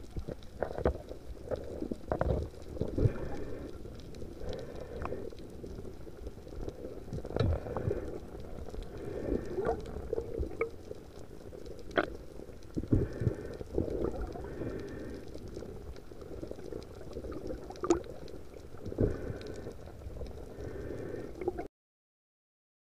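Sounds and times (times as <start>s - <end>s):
muffled underwater rumble: 0.0s - 21.7s.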